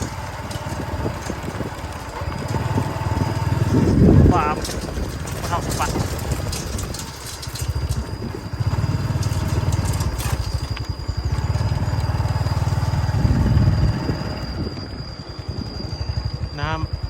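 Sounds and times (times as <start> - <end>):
small motorcycle engine putter: 0.0 - 14.8
faint high whine: 0.0 - 17.0.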